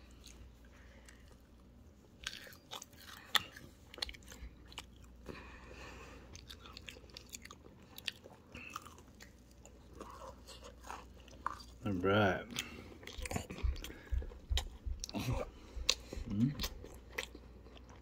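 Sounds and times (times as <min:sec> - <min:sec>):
crunchy chewing: 0:00.0 - 0:18.0.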